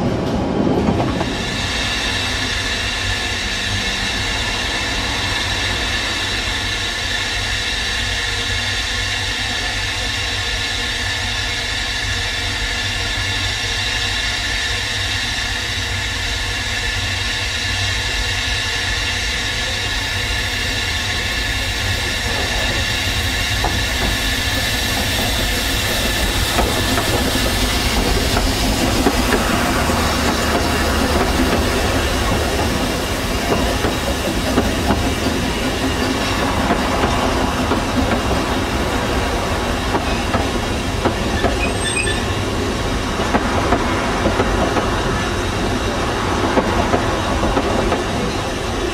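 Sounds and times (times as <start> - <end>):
steam train running past: 0.0 - 48.9.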